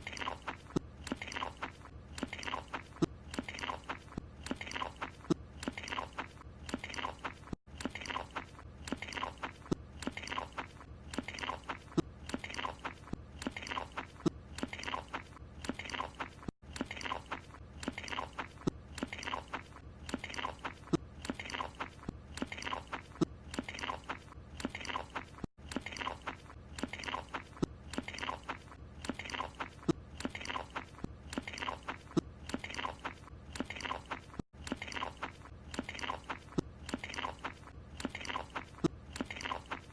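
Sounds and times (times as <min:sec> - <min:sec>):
mouthy chewing and munching: 0:00.0 - 0:39.9.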